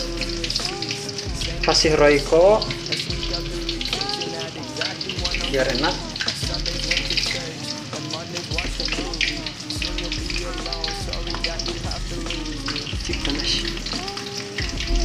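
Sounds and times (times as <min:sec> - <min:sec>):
thick sauce bubbling: 0:00.0 - 0:15.0.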